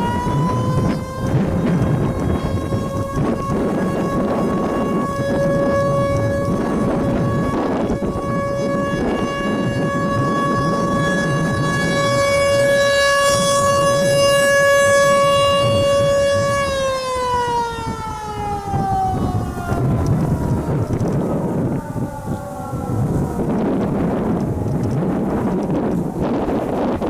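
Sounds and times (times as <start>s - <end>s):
warning siren wailing: 0.0s - 27.0s
wind buffeting microphone: 0.0s - 27.0s.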